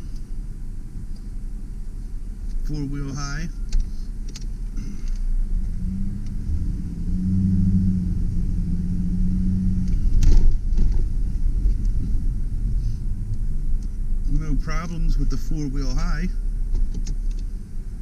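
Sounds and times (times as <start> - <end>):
engine and road rumble: 0.0 - 18.0.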